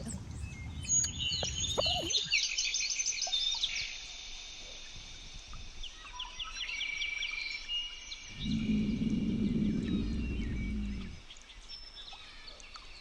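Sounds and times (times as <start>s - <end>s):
birds chirping: 0.0s - 13.0s
faint steady hiss: 0.0s - 13.0s.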